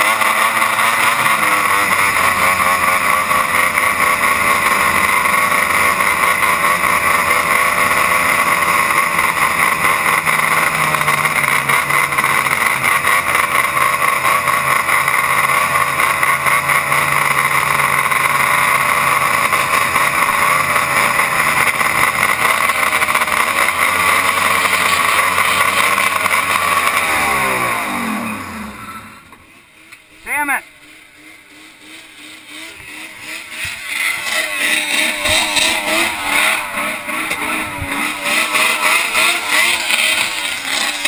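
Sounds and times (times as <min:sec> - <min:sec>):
snowmobile engine running: 0:00.0 - 0:41.0.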